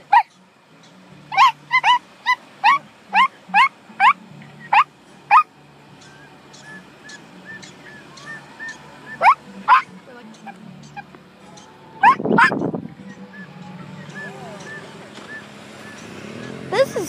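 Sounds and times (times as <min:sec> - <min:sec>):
prairie dog chirp-barks: 0:00.0 - 0:00.4, 0:01.3 - 0:05.5, 0:06.6 - 0:11.1, 0:12.0 - 0:17.0.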